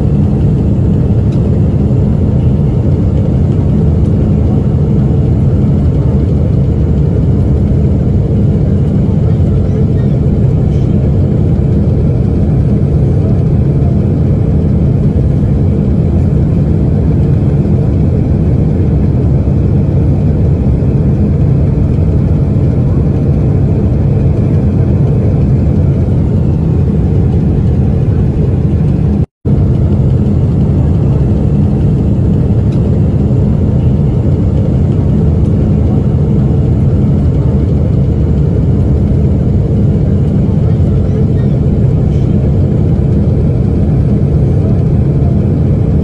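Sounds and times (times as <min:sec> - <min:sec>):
jet engine roar in cabin: 0:00.0 - 0:46.0.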